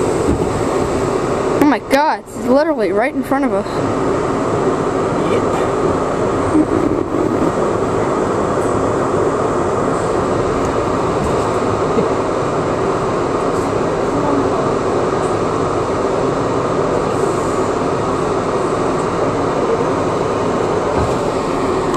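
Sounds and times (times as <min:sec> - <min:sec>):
subway car din in tunnel: 0:00.0 - 0:21.9.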